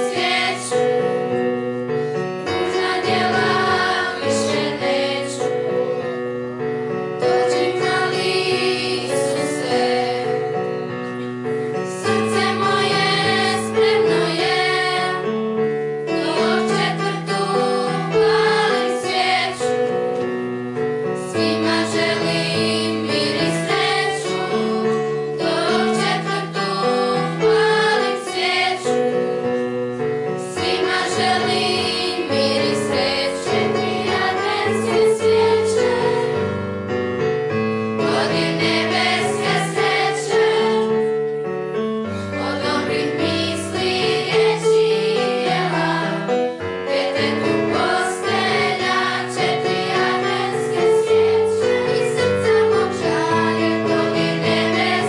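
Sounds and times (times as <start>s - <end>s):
children's choir singing: 0.0s - 1.5s, 2.4s - 6.2s, 7.2s - 11.0s, 11.8s - 20.2s, 21.2s - 36.6s, 38.0s - 41.3s, 42.3s - 55.0s.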